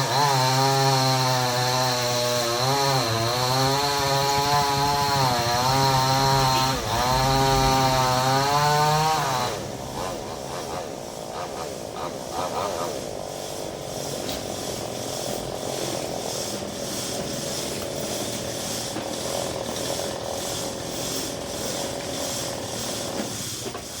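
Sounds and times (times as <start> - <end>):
chainsaw cutting branch: 0.0 - 24.0.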